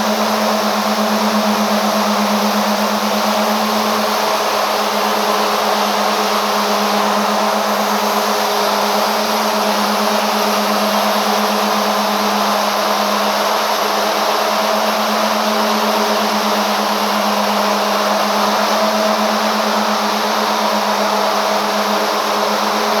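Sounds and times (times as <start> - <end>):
yarn machine whirring hum: 0.0 - 23.0.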